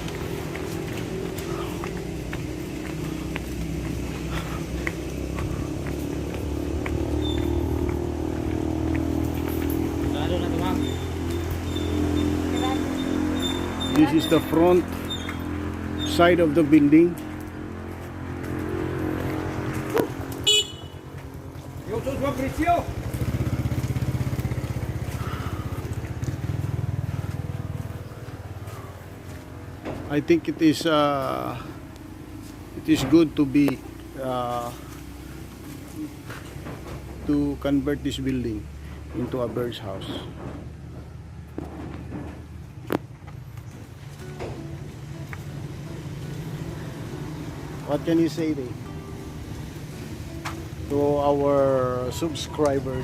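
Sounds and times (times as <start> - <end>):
motor vehicle engine running: 0.0 - 53.0.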